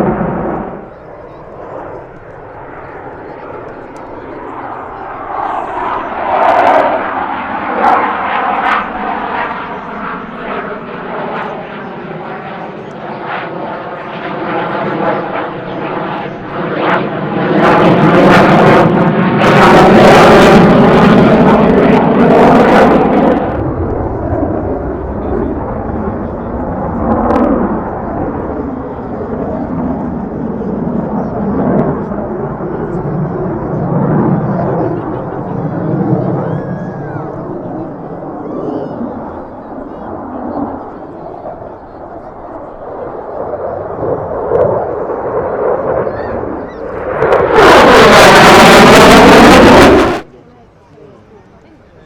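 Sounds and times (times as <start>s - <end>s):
aircraft engine: 0.0s - 52.0s
outdoor background noise: 0.0s - 52.0s.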